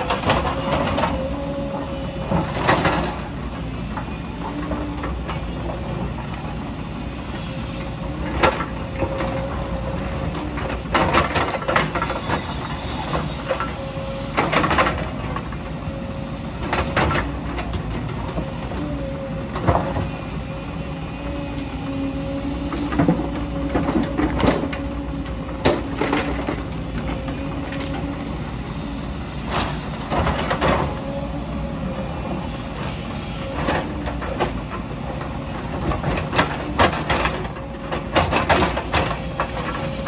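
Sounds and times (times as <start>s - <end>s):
excavator diesel engine: 0.0s - 40.0s.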